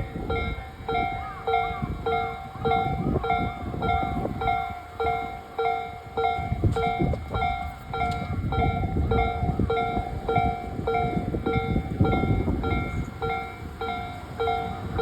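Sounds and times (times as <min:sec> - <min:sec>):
electric train rumbling past: 0:00.0 - 0:15.0
level-crossing warning bell: 0:00.0 - 0:15.0.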